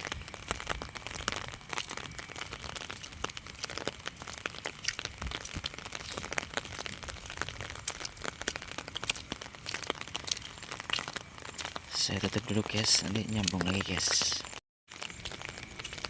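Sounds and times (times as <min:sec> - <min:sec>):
light drizzle pattering: 0:00.0 - 0:16.0.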